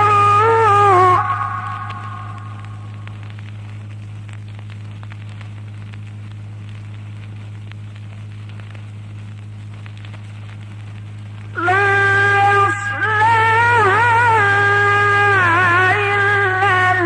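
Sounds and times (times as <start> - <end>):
low electrical hum: 0.0 - 17.0
static crackle: 0.0 - 17.0.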